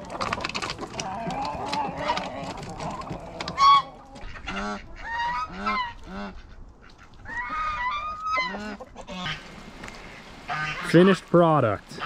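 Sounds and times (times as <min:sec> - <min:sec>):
chickens squawking and calling: 0:00.0 - 0:11.2.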